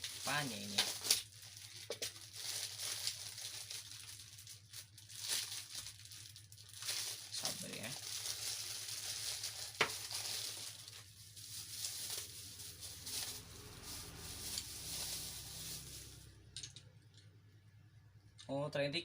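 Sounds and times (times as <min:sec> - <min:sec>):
plastic packaging crinkling: 0:00.0 - 0:16.8.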